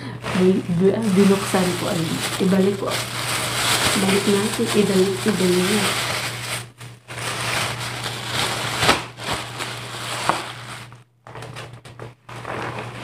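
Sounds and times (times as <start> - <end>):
plastic bag rustling and crinkling: 0.2 - 13.0.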